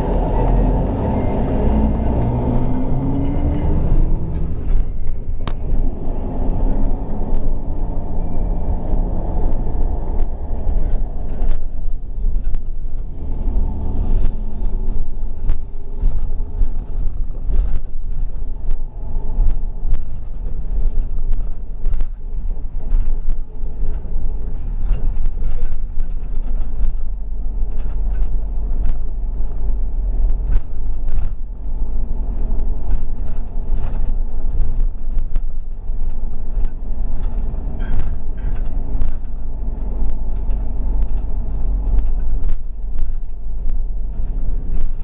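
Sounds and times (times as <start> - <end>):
bus body rattling: 0.0 - 45.0
bus engine and road rumble: 0.0 - 45.0.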